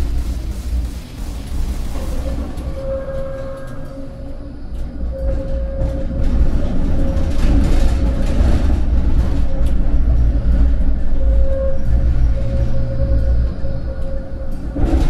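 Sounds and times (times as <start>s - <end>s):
tram rumbling on rails: 0.0s - 15.0s.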